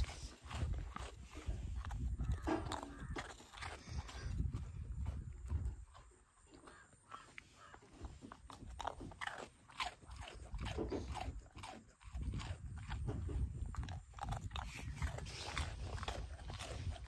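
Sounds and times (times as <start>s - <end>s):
dog crunching biscuits: 0.0s - 17.0s.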